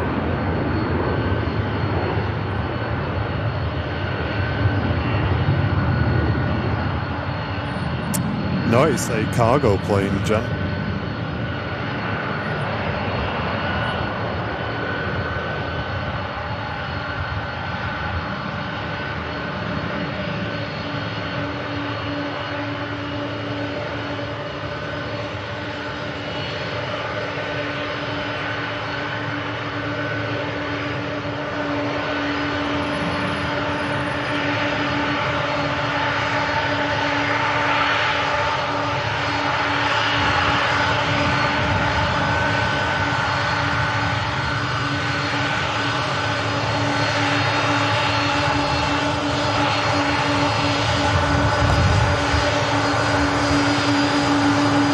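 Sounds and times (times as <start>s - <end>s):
jet engine whine: 0.0s - 54.9s.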